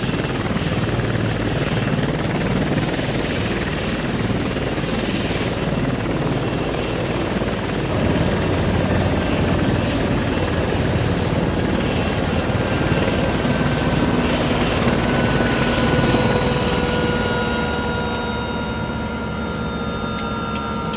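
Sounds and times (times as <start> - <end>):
quadcopter propellers buzzing: 0.0 - 20.9
steady whine: 0.1 - 20.9.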